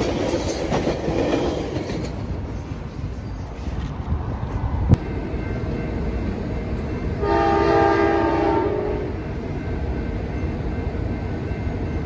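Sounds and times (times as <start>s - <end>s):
commuter train rumble: 0.0s - 12.0s.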